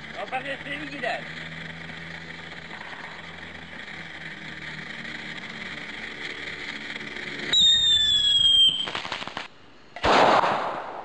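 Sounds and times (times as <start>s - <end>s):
steady background noise: 0.0s - 11.0s
whistling firework: 0.4s - 11.0s.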